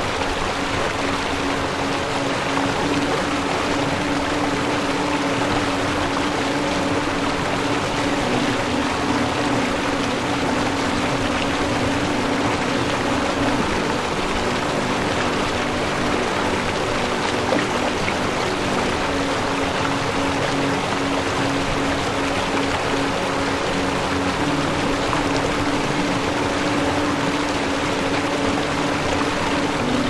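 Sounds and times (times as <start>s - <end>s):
low drone: 0.0s - 30.0s
rushing stream water: 0.0s - 30.0s.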